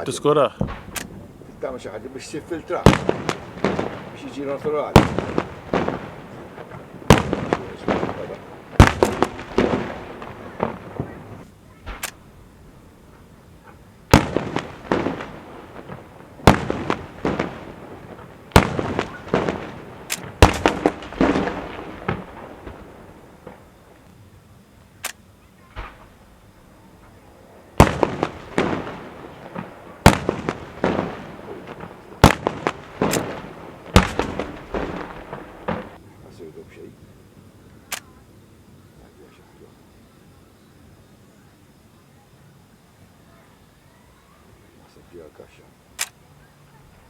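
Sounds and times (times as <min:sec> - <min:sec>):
fireworks bangs: 0:00.0 - 0:47.0
fireworks crackling: 0:00.0 - 0:47.0.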